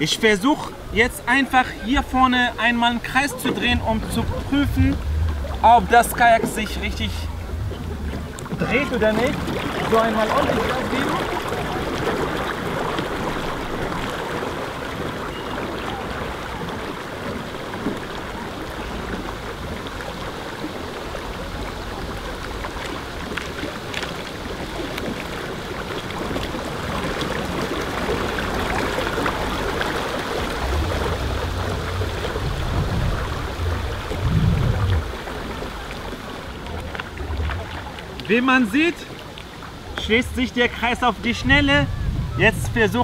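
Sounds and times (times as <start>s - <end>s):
lake water lapping: 0.0s - 43.0s
wind rumble on microphone: 1.8s - 38.3s, 39.5s - 43.0s.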